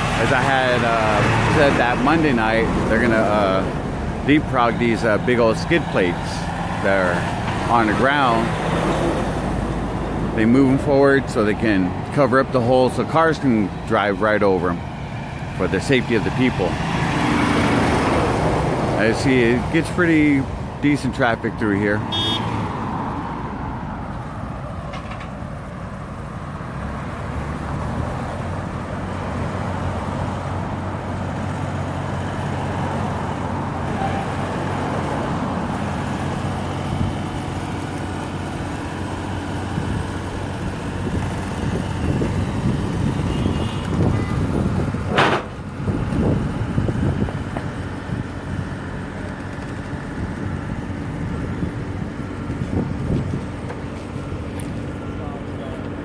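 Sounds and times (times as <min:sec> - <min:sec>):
traffic driving past: 0:00.0 - 0:56.0.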